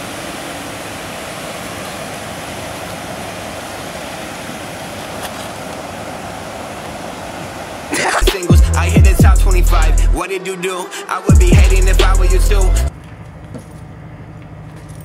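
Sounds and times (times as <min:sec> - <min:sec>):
stream water rushing: 0:00.0 - 0:12.5.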